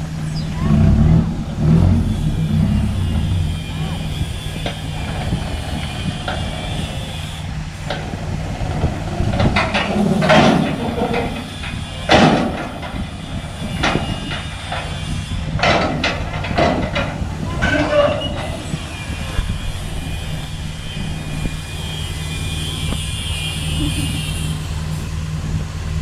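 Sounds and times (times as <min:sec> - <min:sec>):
engine running: 0:00.0 - 0:26.0
knocks and clanks: 0:00.6 - 0:22.0.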